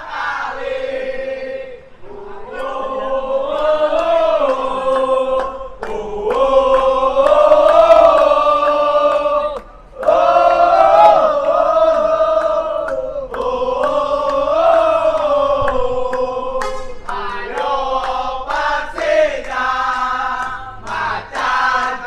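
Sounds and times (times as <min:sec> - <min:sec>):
crowd singing a chant: 0:00.0 - 0:22.0.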